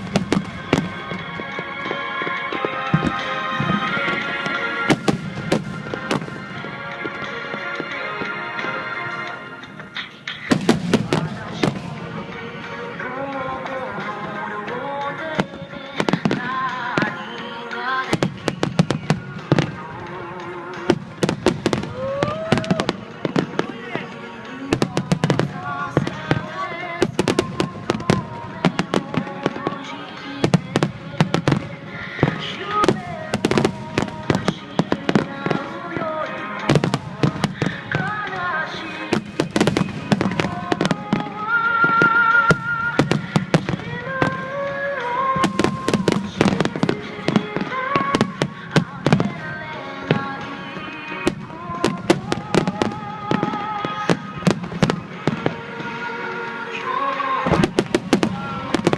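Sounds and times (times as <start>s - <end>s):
fireworks bangs: 0.0s - 58.9s
music with singing: 0.0s - 58.9s.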